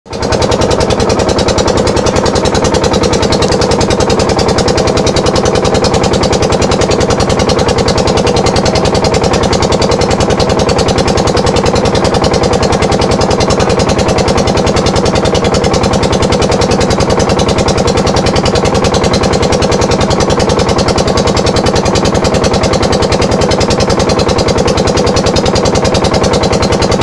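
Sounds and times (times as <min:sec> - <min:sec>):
boat engine running: 0:00.1 - 0:27.0.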